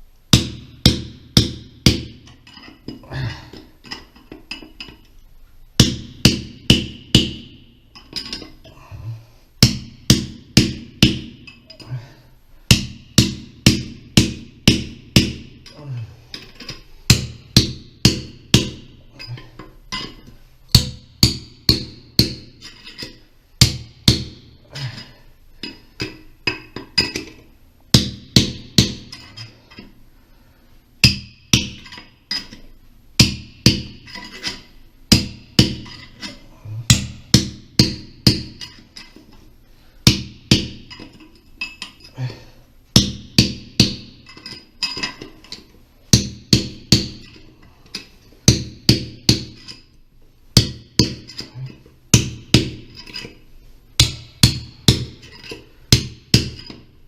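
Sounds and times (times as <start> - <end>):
hammer striking metal tool: 0.3 - 3.0, 5.8 - 8.6, 9.6 - 11.8, 12.7 - 15.7, 16.3 - 29.9, 31.0 - 39.3, 40.0 - 42.1, 43.0 - 50.0, 50.6 - 53.4, 54.0 - 57.0.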